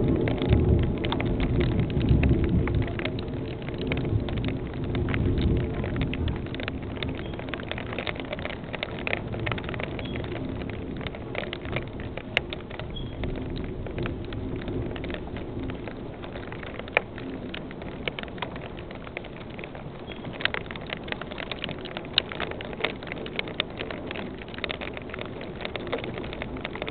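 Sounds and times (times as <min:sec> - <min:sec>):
rain hissing: 0:00.0 - 0:26.9
raindrops ticking on surfaces: 0:00.0 - 0:26.9.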